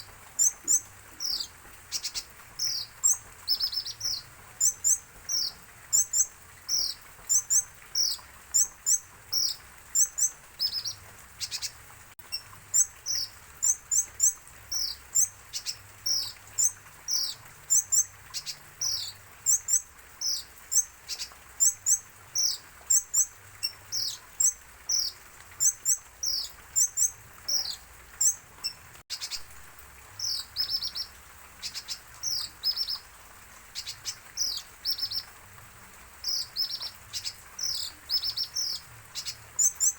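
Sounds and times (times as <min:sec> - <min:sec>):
sunbird chirping: 0:00.0 - 0:29.5, 0:30.2 - 0:33.1, 0:33.7 - 0:35.3, 0:36.2 - 0:39.9.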